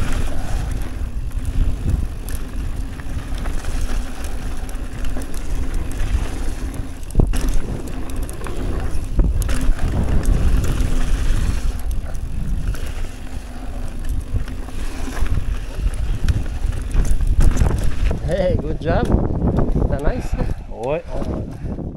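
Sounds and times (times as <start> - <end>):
tyres rumbling over dirt: 0.0 - 20.0
wind rushing over microphone: 0.0 - 21.9.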